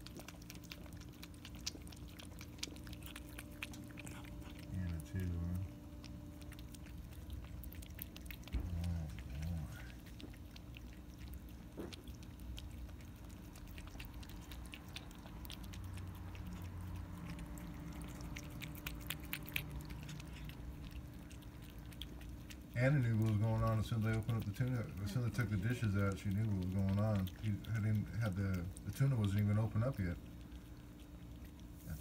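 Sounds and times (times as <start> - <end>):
cat lapping liquid: 0.0 - 32.0.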